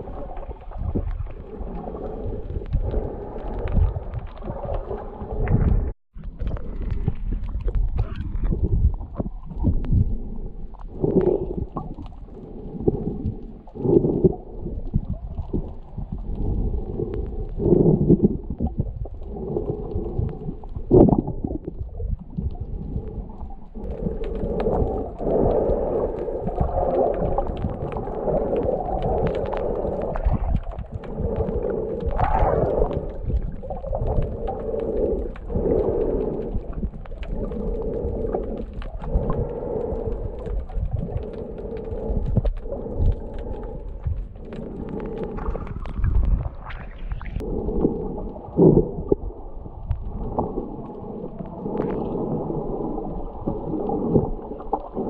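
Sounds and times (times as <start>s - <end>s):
underwater water rumbling and gurgling: 0.0s - 55.0s.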